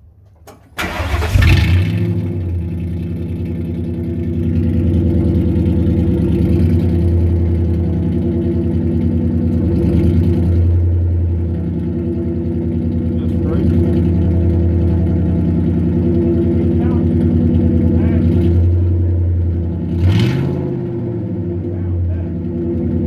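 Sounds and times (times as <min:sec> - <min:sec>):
truck engine loud idle: 0:00.0 - 0:23.0.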